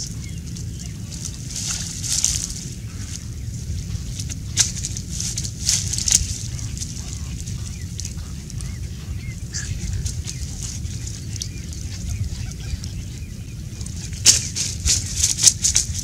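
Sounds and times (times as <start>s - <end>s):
dry reeds crackling: 0.0s - 16.0s
low rumble: 0.0s - 16.0s.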